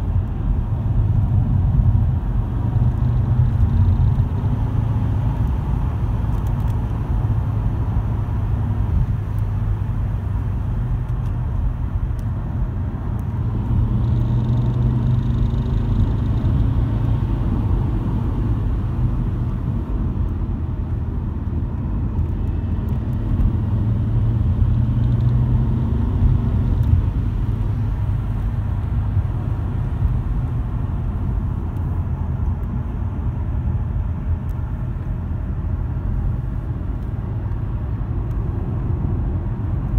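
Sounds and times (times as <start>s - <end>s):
car driving drone: 0.0s - 39.9s.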